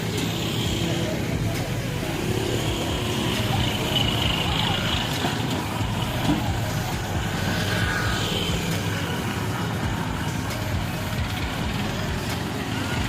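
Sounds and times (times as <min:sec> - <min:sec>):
motor engines running close by: 0:00.0 - 0:13.0
street traffic din: 0:00.0 - 0:13.0.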